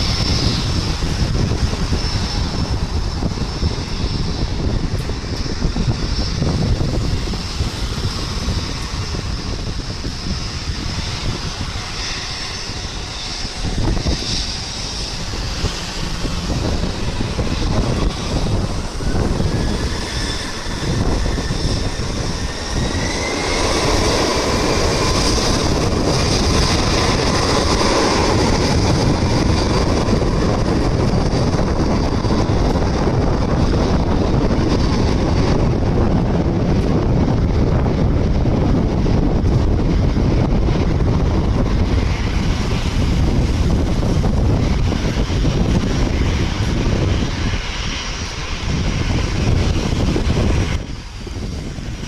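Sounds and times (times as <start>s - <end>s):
jet engine roar: 0.0s - 52.0s
jet engines spooling up: 0.0s - 52.0s.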